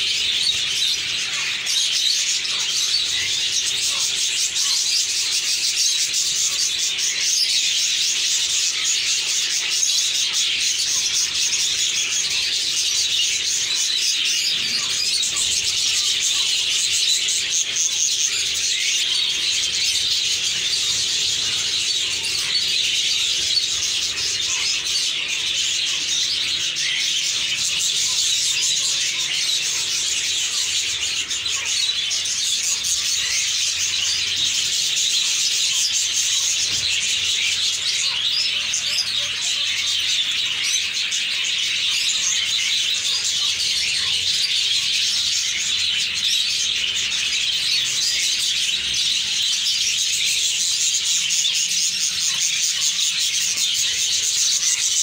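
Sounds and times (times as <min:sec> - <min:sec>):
flock of budgerigars chattering: 0:00.0 - 0:55.0.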